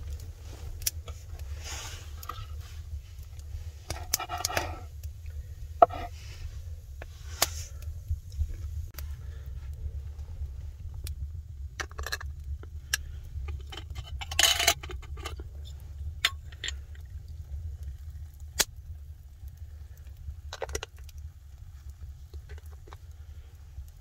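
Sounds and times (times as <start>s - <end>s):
steady low rumble: 0.0s - 24.0s
wood fire popping: 0.0s - 24.0s.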